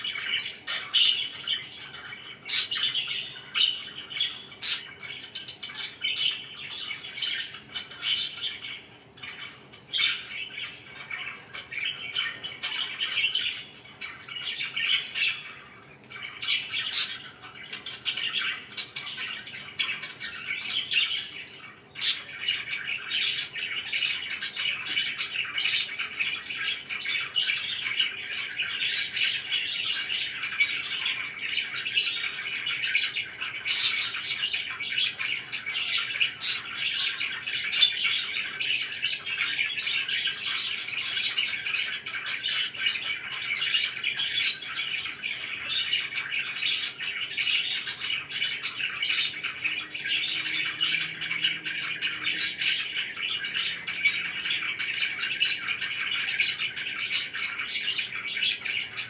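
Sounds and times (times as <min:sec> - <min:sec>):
budgerigars chattering and chirping: 0:00.0 - 0:59.0.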